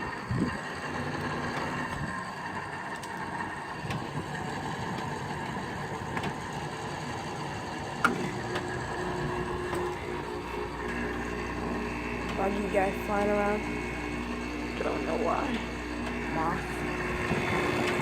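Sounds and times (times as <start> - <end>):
air conditioner fan whir: 0.0 - 18.0
steady low hum: 0.0 - 18.0.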